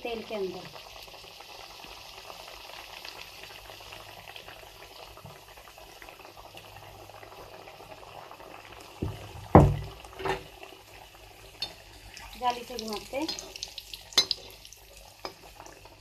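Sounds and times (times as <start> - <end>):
dough deep-frying in oil: 0.0 - 16.0.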